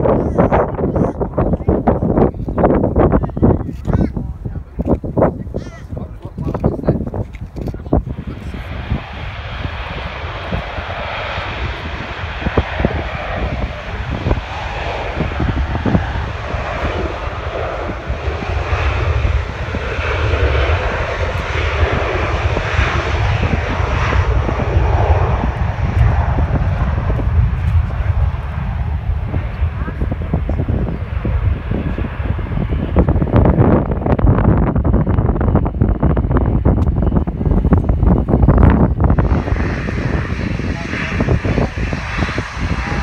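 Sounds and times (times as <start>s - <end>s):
jet engine roar: 0.0s - 43.0s.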